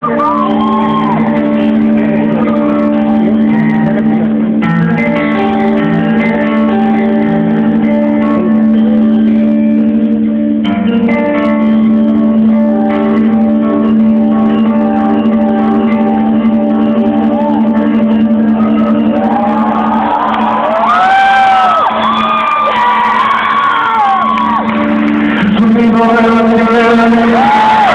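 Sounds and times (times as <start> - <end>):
live band instrumental with guitar: 0.0 - 27.9.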